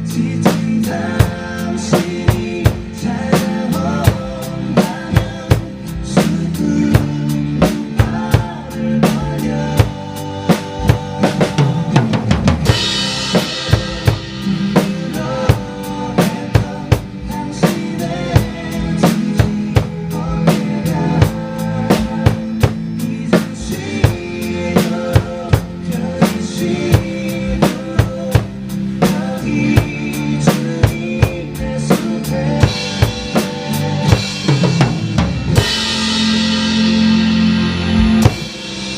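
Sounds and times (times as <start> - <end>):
backing track music: 0.0 - 38.9
drum kit groove: 0.0 - 38.9.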